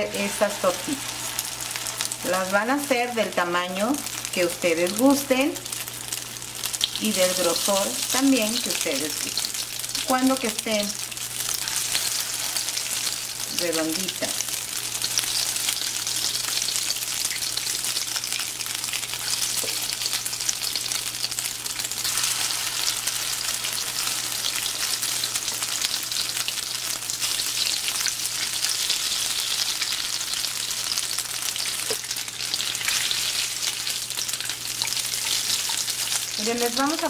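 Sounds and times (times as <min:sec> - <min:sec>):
patties frying in hot oil: 0:00.0 - 0:37.0.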